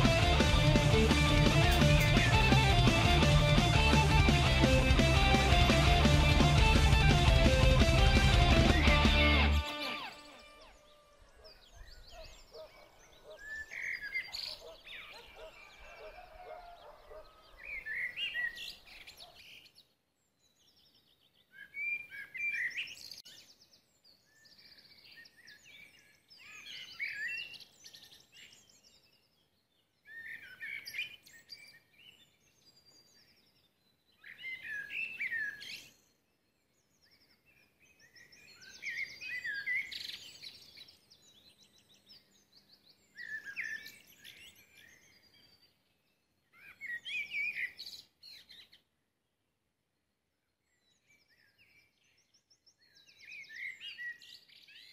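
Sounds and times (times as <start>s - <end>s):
songbird chirping and trilling: 0.0s - 49.0s, 50.4s - 54.9s.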